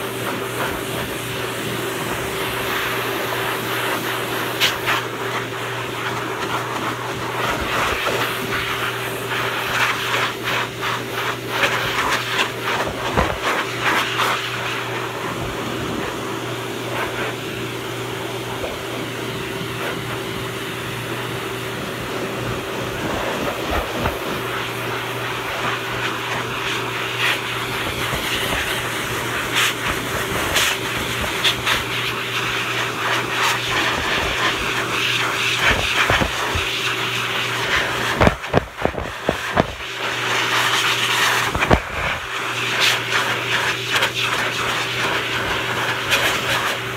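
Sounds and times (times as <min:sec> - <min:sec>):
blow dryer rushing air: 0:00.0 - 0:46.9.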